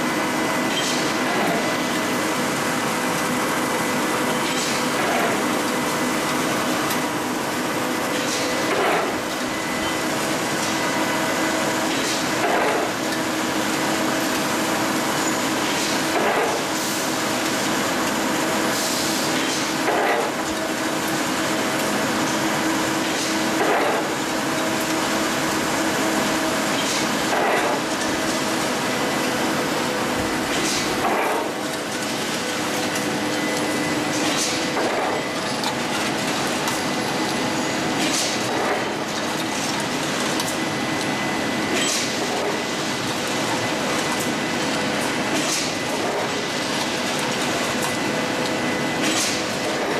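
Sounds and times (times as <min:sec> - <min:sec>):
machinery hums: 0:00.0 - 0:49.9.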